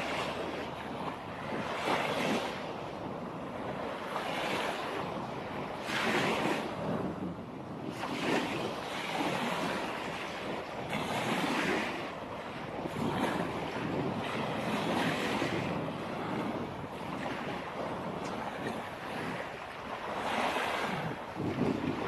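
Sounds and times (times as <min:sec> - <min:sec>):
surf washing onto beach: 0:00.0 - 0:22.0.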